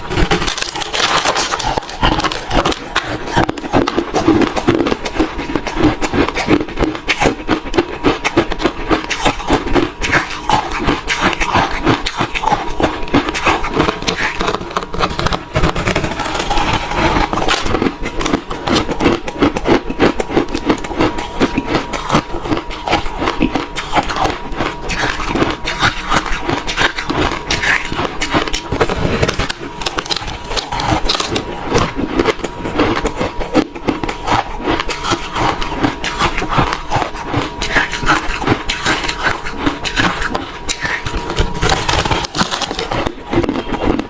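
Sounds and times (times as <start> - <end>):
crushed ice being chewed: 0.0 - 44.0.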